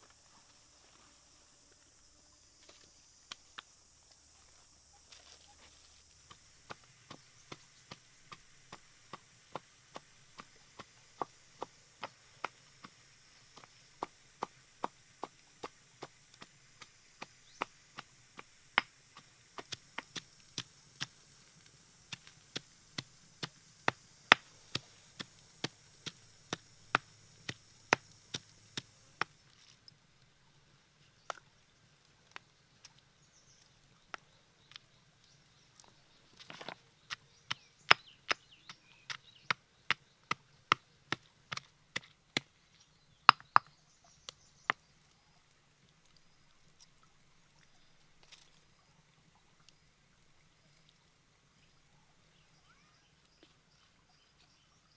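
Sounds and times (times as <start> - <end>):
faint high hiss: 0.0 - 54.9.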